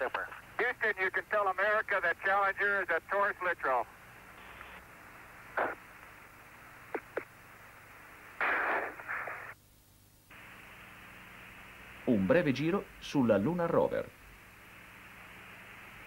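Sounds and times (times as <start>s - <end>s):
radio hiss and static: 0.0s - 9.6s, 10.3s - 16.0s
radio static crackles: 0.0s - 9.6s, 10.3s - 16.0s.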